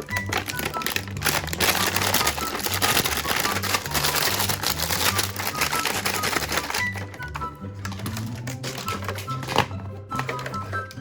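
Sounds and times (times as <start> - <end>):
plastic packaging crinkling: 0.0 - 10.9.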